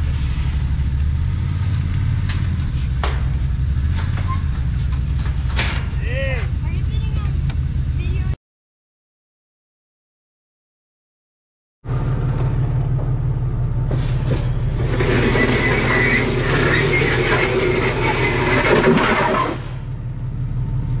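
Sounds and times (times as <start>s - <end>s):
car engine running under load: 0.0s - 8.4s, 11.8s - 21.0s
rattling and rumbling: 0.0s - 8.4s, 11.8s - 21.0s.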